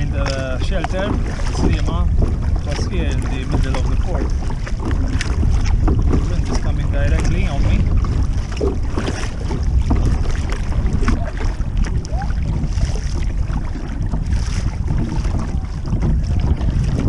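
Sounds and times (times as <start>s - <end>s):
water splashing against kayak: 0.0s - 17.0s
wind buffeting microphone: 0.0s - 17.0s.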